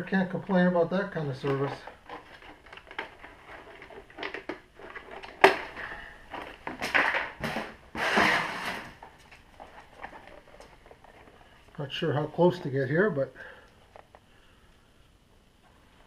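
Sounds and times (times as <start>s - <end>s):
rustling and scraping: 0.0s - 13.2s.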